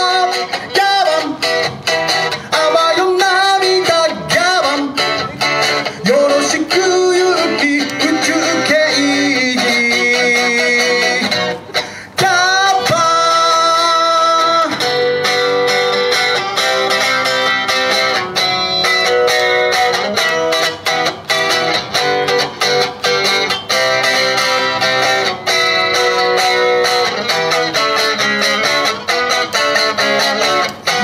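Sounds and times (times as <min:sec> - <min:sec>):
amplified electric guitar playing: 0:00.0 - 0:31.0.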